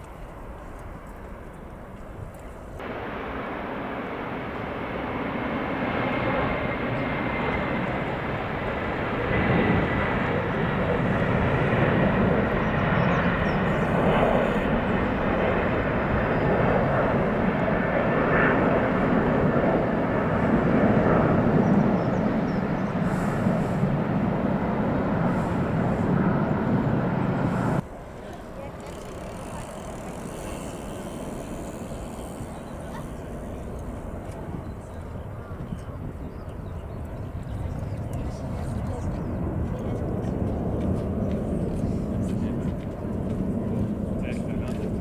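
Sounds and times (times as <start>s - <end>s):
high fan whine: 0.0s - 45.0s
jet engines roaring at takeoff: 0.0s - 45.0s.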